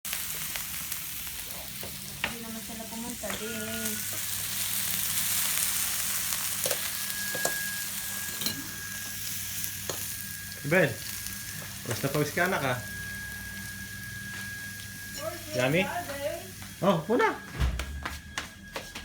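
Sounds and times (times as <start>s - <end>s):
food sizzling on a grill: 0.0s - 17.5s.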